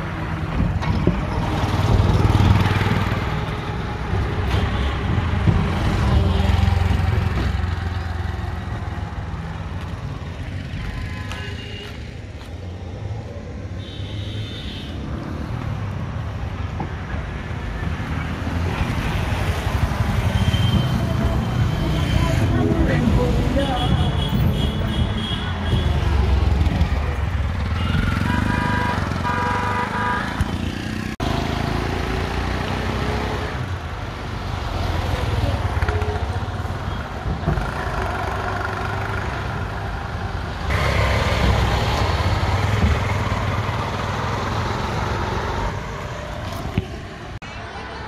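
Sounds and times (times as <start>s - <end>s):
motorcycle and car engines: 0.0s - 11.5s, 14.9s - 48.0s
tyres on the road: 0.0s - 48.0s.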